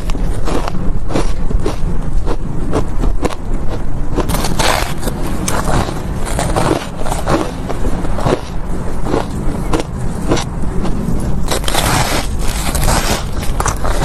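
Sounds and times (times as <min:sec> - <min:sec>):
crunchy chewing of ice: 0:00.0 - 0:14.0.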